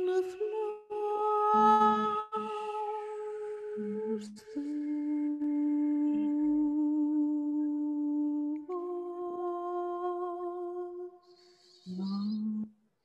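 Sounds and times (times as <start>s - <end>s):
woman humming held notes: 0.0s - 12.7s.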